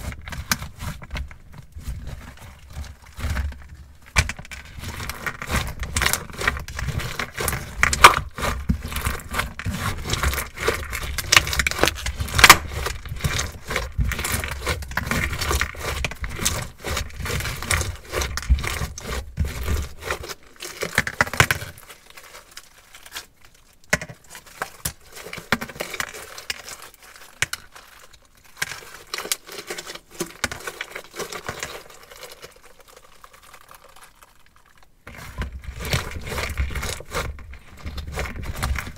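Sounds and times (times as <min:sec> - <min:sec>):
crunchy slime crackling and squelching: 0:00.0 - 0:38.9.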